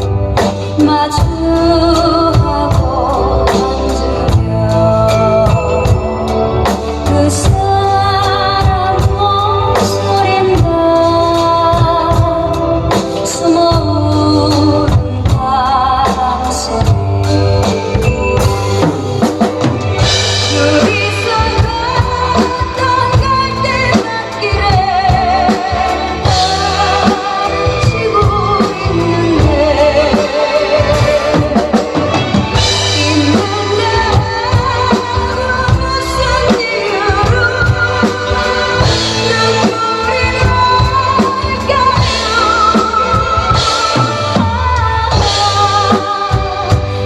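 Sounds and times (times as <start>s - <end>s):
backing band ballad: 0.0s - 47.0s
drum kit playing: 0.0s - 47.0s
woman singing with vibrato: 0.0s - 47.0s.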